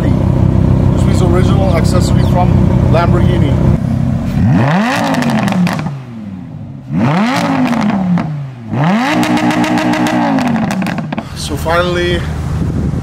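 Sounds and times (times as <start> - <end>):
car engine revving: 0.0 - 12.8
exhaust crackles: 0.0 - 13.0.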